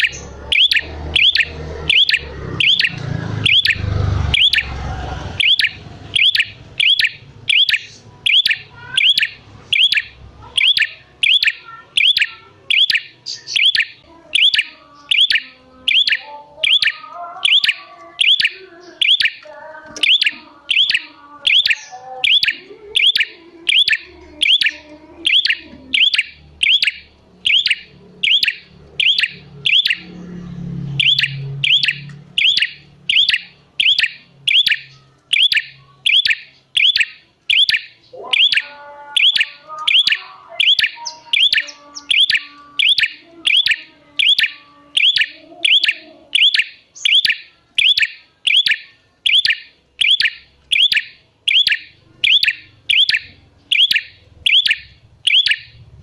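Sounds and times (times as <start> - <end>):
soft bird twittering: 0.0 - 55.9.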